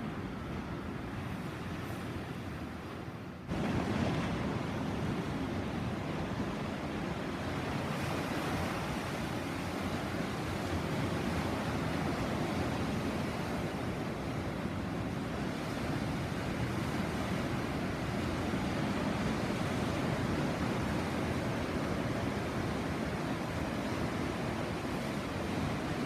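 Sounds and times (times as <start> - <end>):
sea surf washing onto shore: 0.0 - 26.0.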